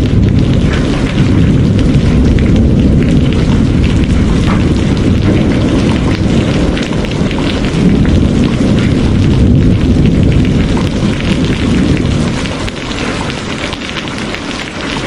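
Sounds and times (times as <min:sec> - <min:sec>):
heavy rain falling: 0:00.0 - 0:15.0
rumble of thunder: 0:00.0 - 0:15.0.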